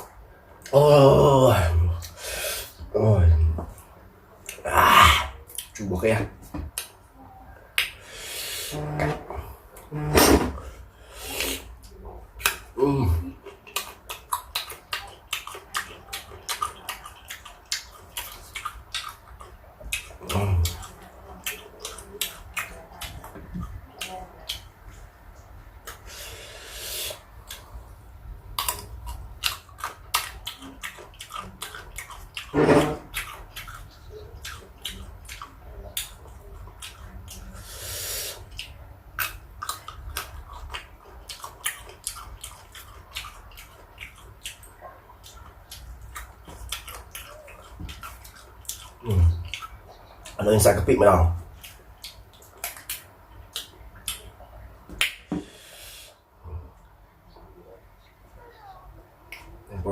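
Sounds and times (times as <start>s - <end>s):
person chewing and crunching fruit: 0.0s - 7.0s, 7.7s - 57.0s.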